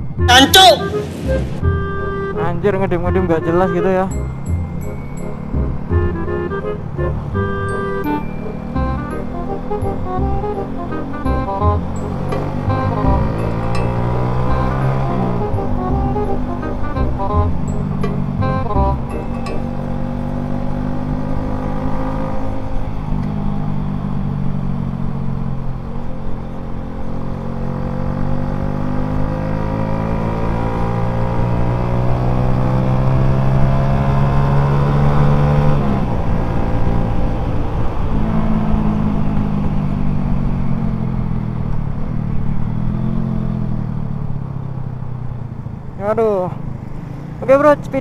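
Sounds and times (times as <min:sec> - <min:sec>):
motorcycle engine accelerating: 0:04.1 - 0:46.0.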